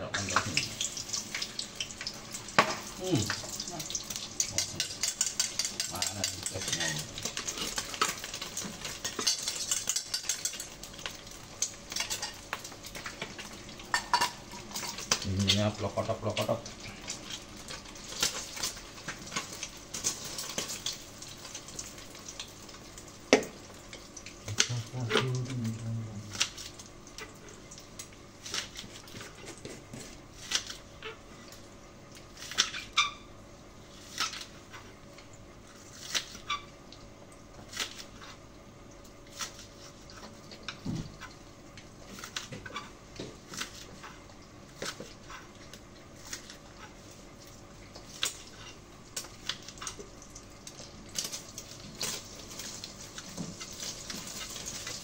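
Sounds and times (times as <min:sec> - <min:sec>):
food sizzling in hot oil: 0:00.1 - 0:29.5, 0:30.2 - 0:55.0.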